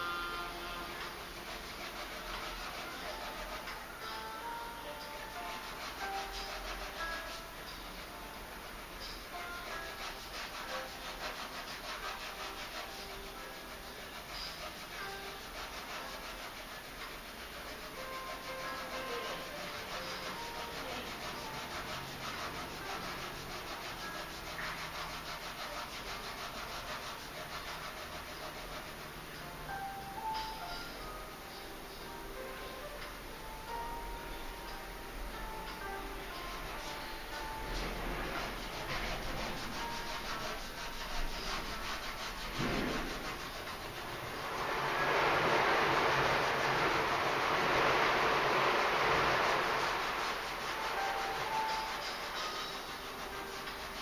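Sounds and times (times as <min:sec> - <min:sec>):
pen scratching on paper: 0:00.0 - 0:30.9, 0:35.6 - 0:54.0.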